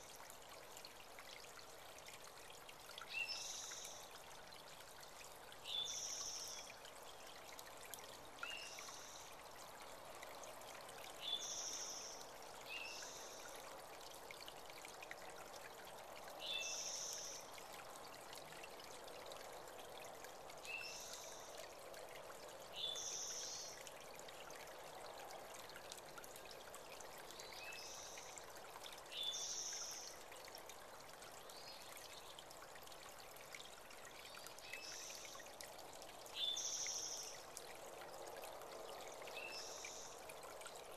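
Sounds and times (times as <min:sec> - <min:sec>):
creek trickling: 0:00.0 - 0:40.9.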